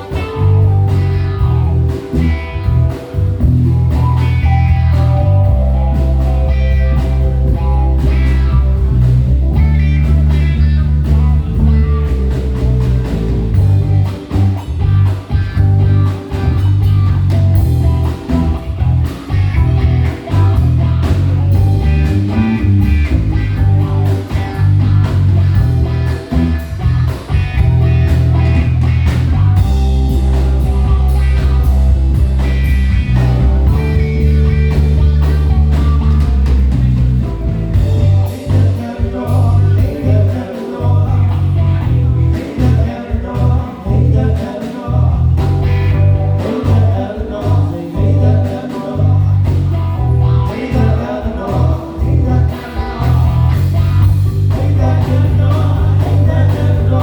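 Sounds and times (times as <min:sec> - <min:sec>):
drums: 0:00.0 - 0:57.0
guitar: 0:00.0 - 0:57.0
heavy bass line: 0:00.0 - 0:57.0
keyboard: 0:00.0 - 0:57.0
live blues-rock band: 0:00.0 - 0:57.0.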